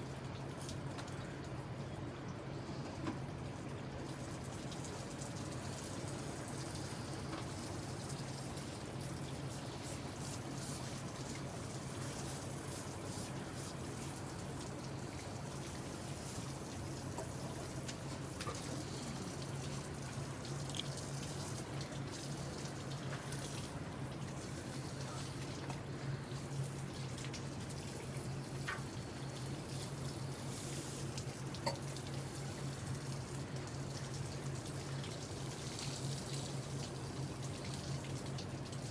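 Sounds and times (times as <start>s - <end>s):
faint water drips: 0.0s - 38.9s
water running and trickling: 0.0s - 38.9s.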